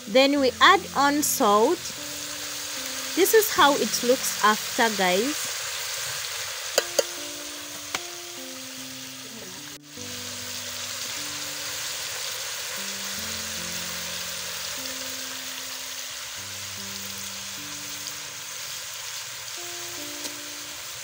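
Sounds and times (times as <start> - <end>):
slow low background music: 0.0 - 21.0
vegetables sizzling in saucepan: 0.0 - 21.0.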